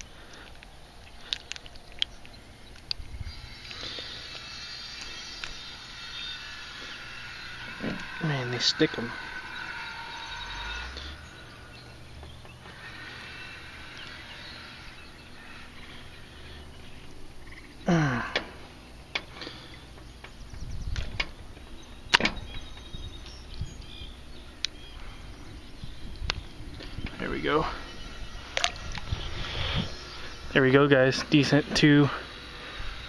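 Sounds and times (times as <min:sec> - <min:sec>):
faint rumble: 0:00.0 - 0:33.0.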